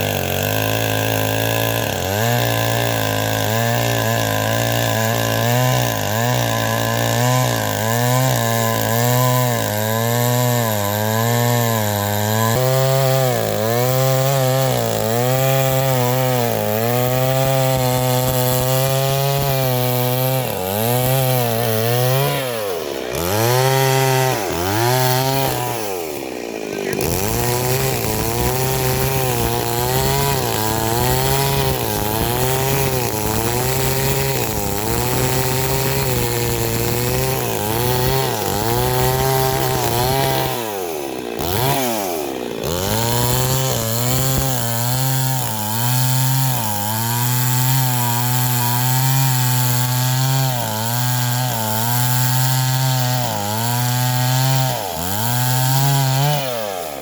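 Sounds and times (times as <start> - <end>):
small engine running under load: 0.0 - 57.0.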